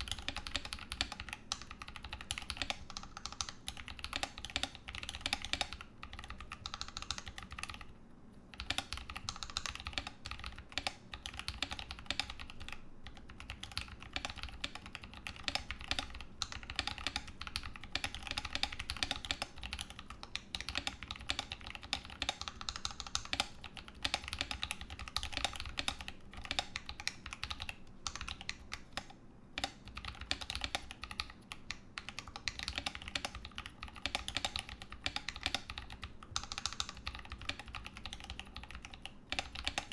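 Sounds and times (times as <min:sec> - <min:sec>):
fast typing on mechanical keyboard: 0:00.0 - 0:07.9, 0:08.5 - 0:39.9.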